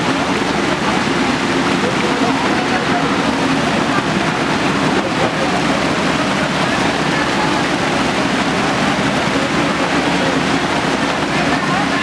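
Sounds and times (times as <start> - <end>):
diesel engine running: 0.0 - 12.0
flood water rushing: 0.0 - 12.0.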